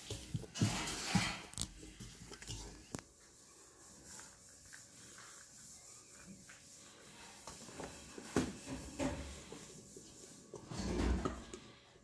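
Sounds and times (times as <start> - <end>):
flour dusting on pastry mat: 0.0 - 10.7.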